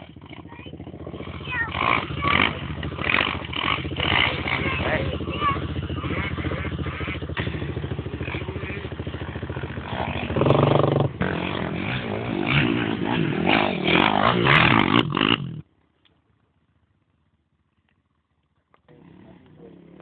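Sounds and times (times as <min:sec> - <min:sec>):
quad bike engine revving: 0:00.0 - 0:15.7, 0:18.8 - 0:20.0.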